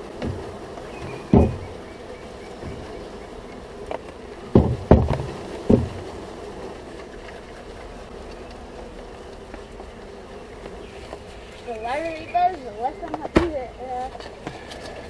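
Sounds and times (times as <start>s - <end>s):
wooden box thumping on hive: 0.0s - 6.4s, 7.1s - 14.7s
honeybees buzzing: 0.0s - 15.0s.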